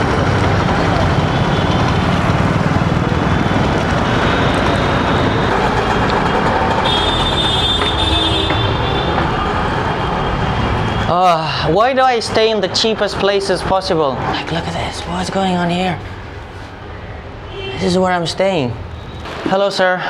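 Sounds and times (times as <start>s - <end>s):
busy street traffic: 0.0s - 20.0s.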